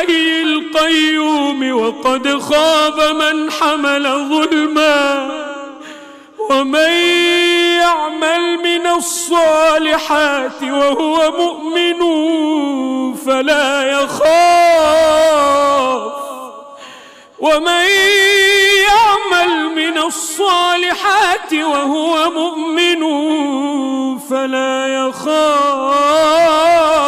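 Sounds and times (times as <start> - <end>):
man chanting recitation: 0.0 - 16.8, 17.4 - 27.0.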